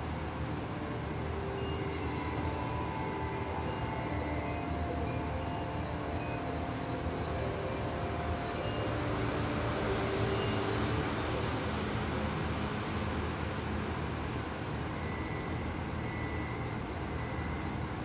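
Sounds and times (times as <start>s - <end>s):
faint whining tones: 0.0s - 13.1s, 14.4s - 18.0s
train low rumble: 0.0s - 18.0s.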